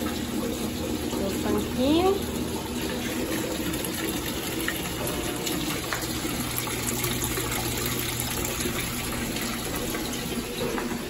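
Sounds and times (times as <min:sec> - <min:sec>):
water spraying into washing machine: 0:00.0 - 0:11.0.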